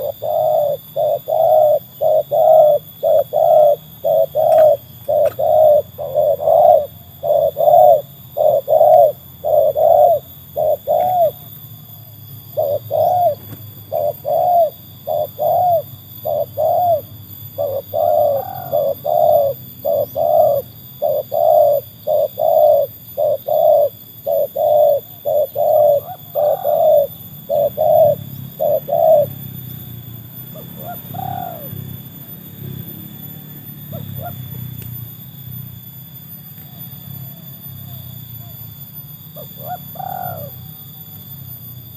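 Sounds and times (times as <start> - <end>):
dove cooing: 0.0 - 35.5, 36.5 - 41.8.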